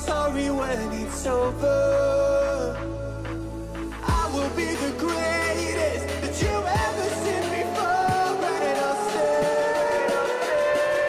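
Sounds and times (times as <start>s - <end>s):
pop song with bass line: 0.0s - 11.0s
sung vocal: 0.0s - 11.0s.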